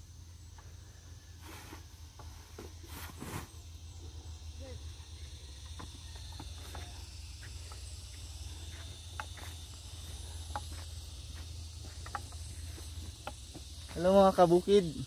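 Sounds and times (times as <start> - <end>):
field insects chirring: 0.0 - 15.0.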